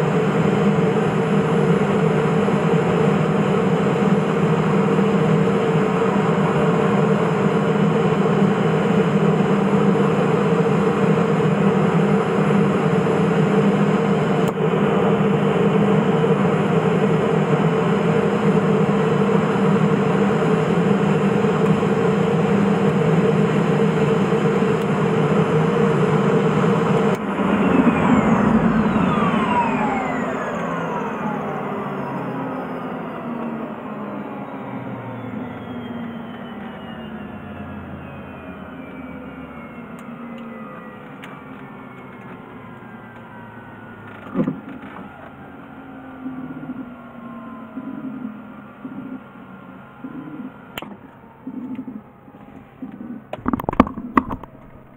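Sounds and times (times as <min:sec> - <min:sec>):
turbine whining down: 0:00.0 - 0:54.9
turboprop engine drone: 0:00.0 - 0:54.9.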